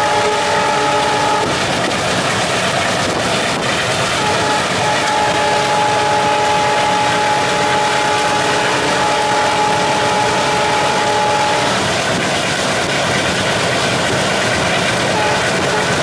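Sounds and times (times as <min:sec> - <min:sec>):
diesel locomotive engine under load: 0:00.0 - 0:16.0
train rumbling on rails: 0:00.0 - 0:16.0.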